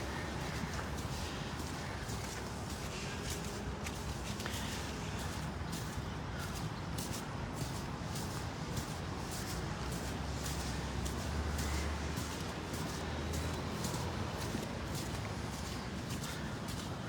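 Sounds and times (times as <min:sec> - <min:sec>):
footsteps crunching on snow: 0:00.0 - 0:17.0
rumble of city traffic: 0:00.0 - 0:17.0.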